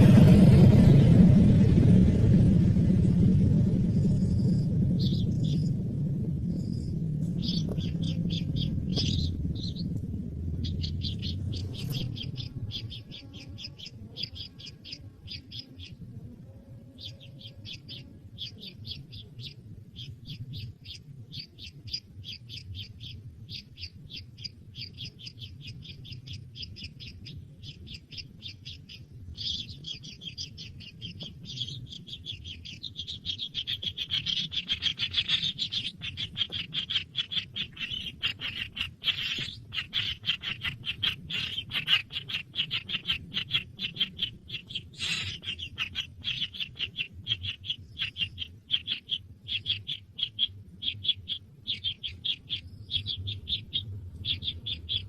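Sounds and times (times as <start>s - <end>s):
nestling birds chirping: 0.0s - 2.3s, 3.8s - 55.0s.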